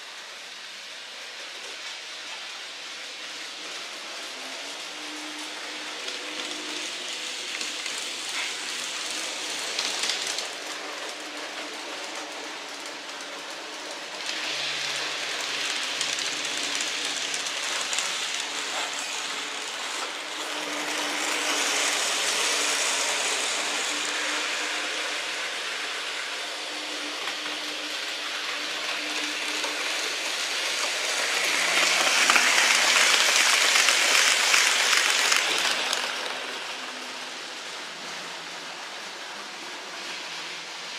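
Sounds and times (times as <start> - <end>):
model train wheels hissing on rails: 0.0 - 40.9.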